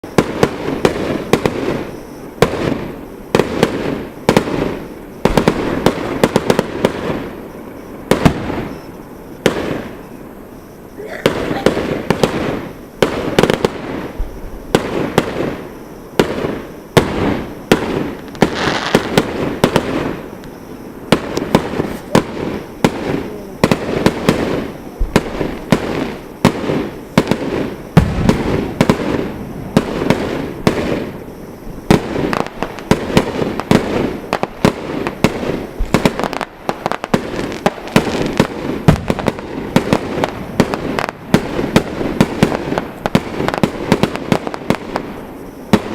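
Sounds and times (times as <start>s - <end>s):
deep firework booms: 0.0s - 45.9s
firework bangs and crackles: 0.0s - 45.9s
firework hissing: 0.0s - 45.9s.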